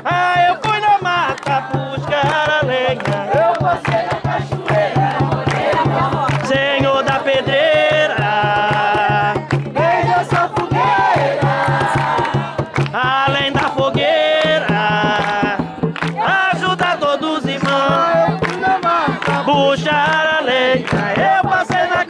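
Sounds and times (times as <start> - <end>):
fast hand-drum beats: 0.0 - 22.0
voices singing a chant: 0.0 - 22.0.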